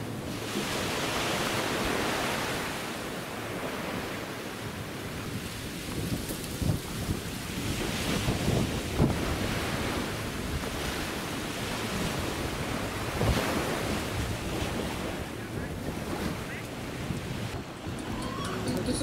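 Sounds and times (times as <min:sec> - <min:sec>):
small waves breaking: 0:00.0 - 0:19.0
wind gusting over microphone: 0:00.0 - 0:19.0.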